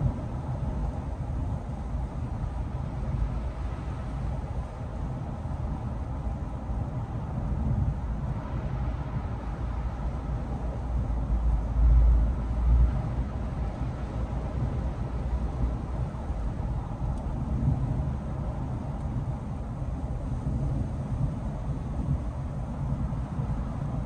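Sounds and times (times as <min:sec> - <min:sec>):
car road noise rumble: 0:00.0 - 0:24.0.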